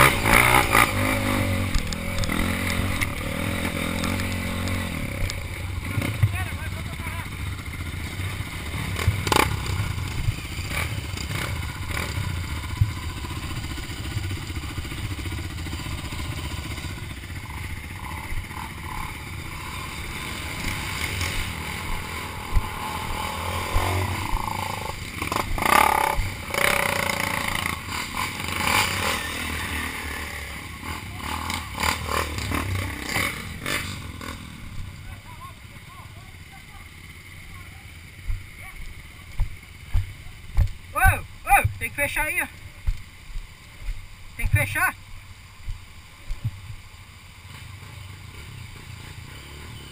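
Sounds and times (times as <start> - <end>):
knocks and clatter of bikes: 0.0 - 29.6, 30.8 - 35.0, 37.0 - 44.8, 45.7 - 49.9
dirt bike engines revving: 0.0 - 49.9.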